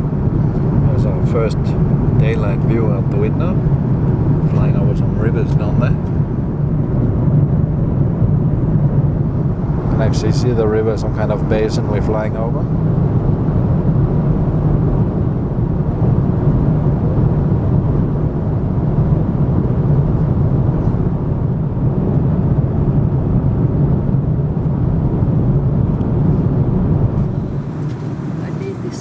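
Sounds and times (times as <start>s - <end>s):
airliner cabin drone: 0.0s - 29.0s.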